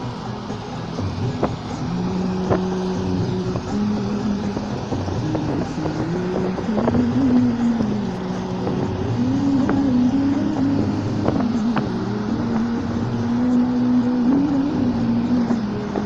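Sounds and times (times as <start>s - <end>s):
heavy machinery droning: 0.0s - 16.0s.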